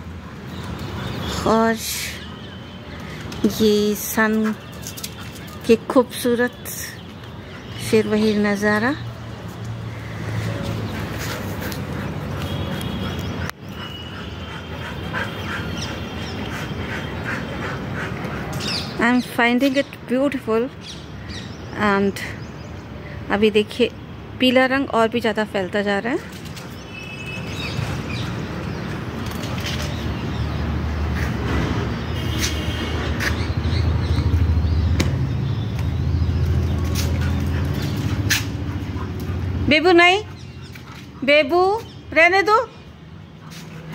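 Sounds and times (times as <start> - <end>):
outdoor background noise: 0.0 - 43.9
birds calling: 0.3 - 20.0, 26.2 - 43.9.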